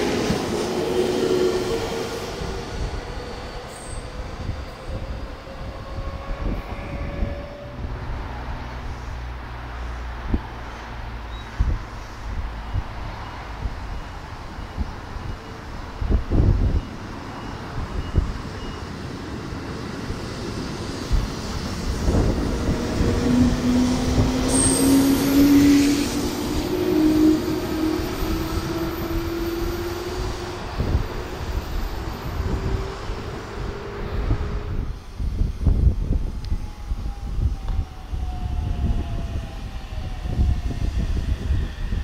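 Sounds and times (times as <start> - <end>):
wheels rumbling on rail: 0.0 - 42.0.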